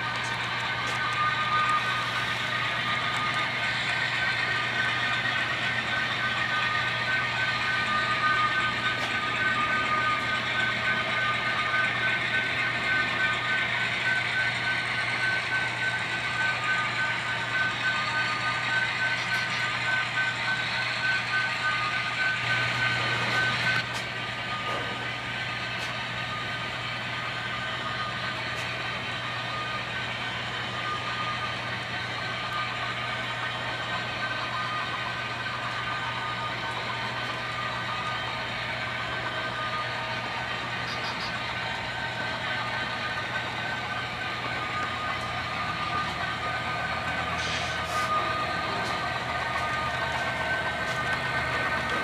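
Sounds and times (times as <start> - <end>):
model train wheels rattling on rails: 0.0 - 52.0
thin high whine: 0.0 - 52.0.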